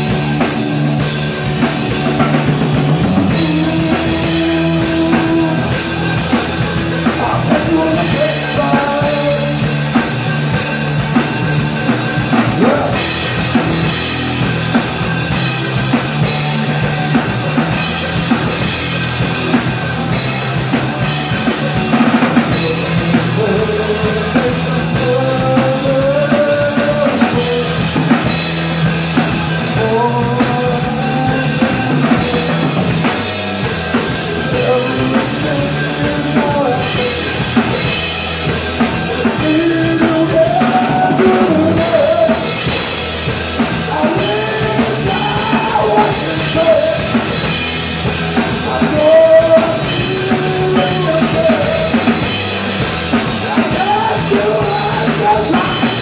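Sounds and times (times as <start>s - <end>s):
drum kit beat: 0.0s - 56.0s
electric guitars: 0.0s - 56.0s.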